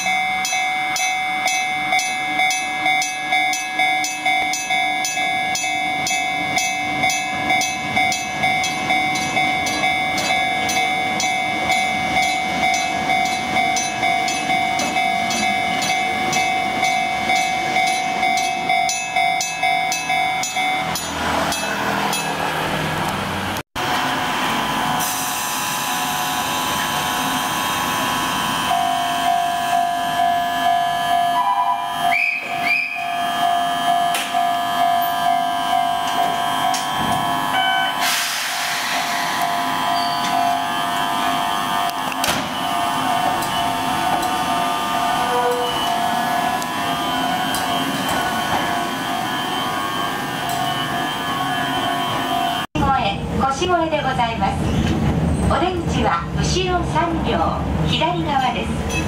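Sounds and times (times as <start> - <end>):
crossing warning bell ringing: 0.0 - 23.1, 24.2 - 38.1, 38.9 - 52.7
electric train passing: 0.0 - 54.4.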